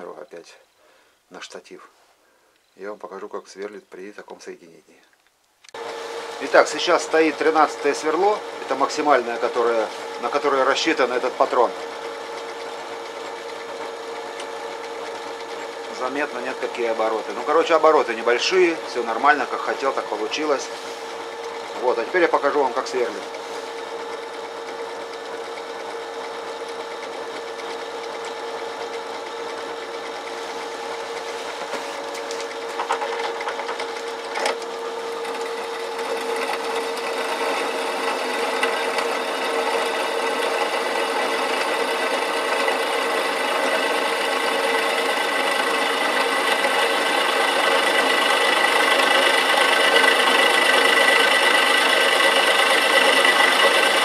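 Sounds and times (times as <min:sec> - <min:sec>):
electric motor hum: 0:05.7 - 0:54.0
drill bit cutting into steel: 0:05.8 - 0:31.7, 0:32.3 - 0:54.0.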